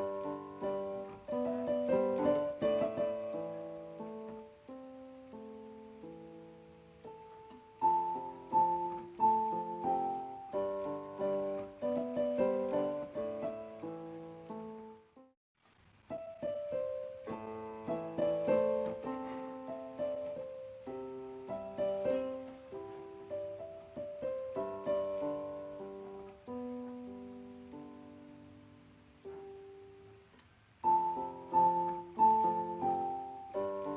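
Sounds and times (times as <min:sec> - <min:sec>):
gentle piano melody: 0:00.0 - 0:15.4, 0:16.0 - 0:33.9.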